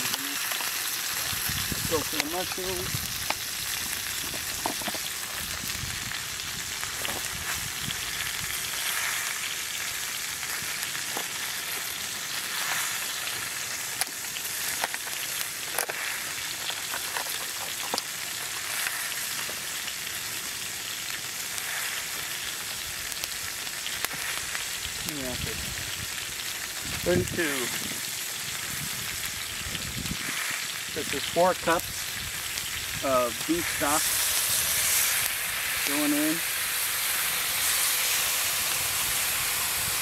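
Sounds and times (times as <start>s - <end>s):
food sizzling in a pot: 0.0s - 40.0s
sharp pops and crackles: 0.0s - 40.0s.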